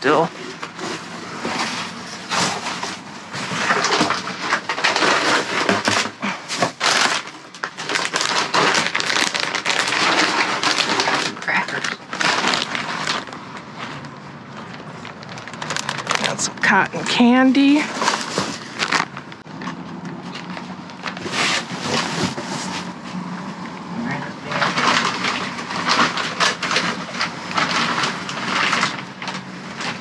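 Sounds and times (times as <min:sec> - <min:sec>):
bags and packaging rustling: 0:00.0 - 0:30.0.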